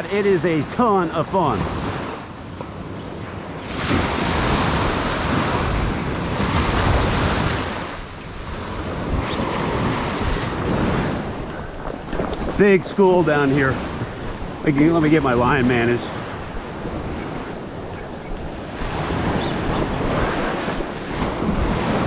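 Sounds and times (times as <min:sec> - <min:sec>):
surf breaking on sand: 0:00.0 - 0:17.7, 0:18.5 - 0:22.0
wind buffeting microphone: 0:00.0 - 0:22.0.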